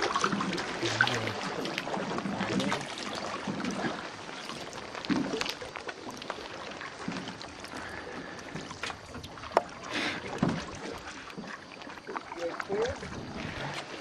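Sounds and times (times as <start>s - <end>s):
water noise: 0.0s - 14.0s
wind: 0.0s - 14.0s.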